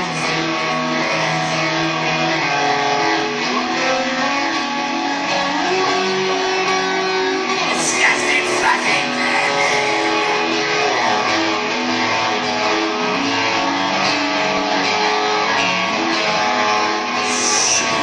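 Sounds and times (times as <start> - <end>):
bass guitar: 0.0 - 18.0
electric guitar: 0.0 - 18.0.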